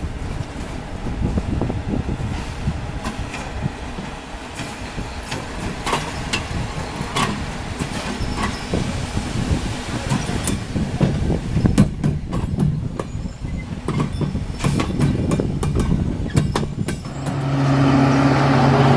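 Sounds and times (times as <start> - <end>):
train wheels rumbling: 0.0 - 18.9
train wheels clicking and clattering: 0.2 - 9.0, 9.6 - 17.6.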